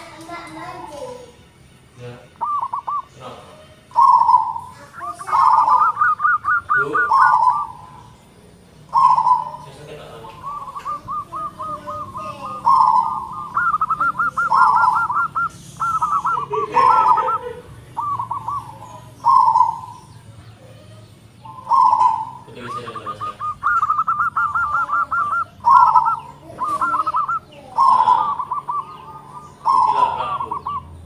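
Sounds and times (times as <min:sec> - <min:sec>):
dove cooing: 0:02.4 - 0:31.0.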